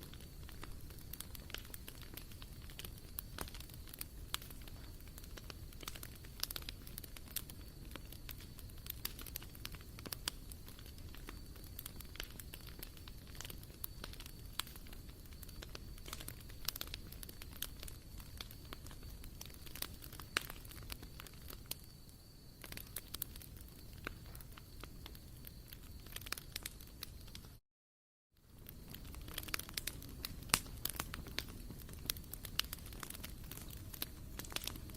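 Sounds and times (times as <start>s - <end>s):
low steady fire hiss: 0.0s - 27.6s, 28.4s - 34.9s
wood fire crackling and popping: 0.0s - 27.6s, 28.4s - 34.9s.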